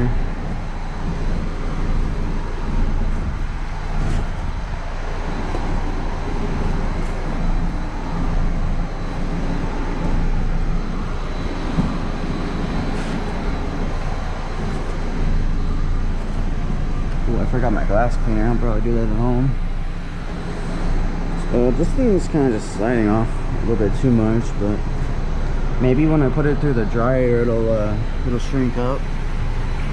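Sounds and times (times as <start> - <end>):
low machine drone: 0.0 - 29.9.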